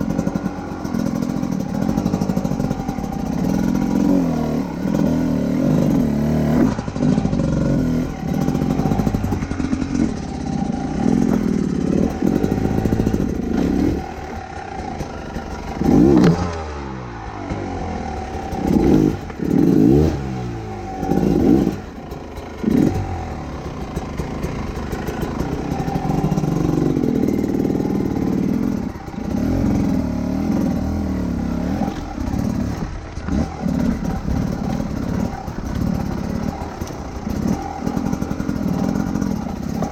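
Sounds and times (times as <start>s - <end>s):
motorcycle engine running: 0.0s - 39.9s
sharp engine revs: 0.0s - 39.9s.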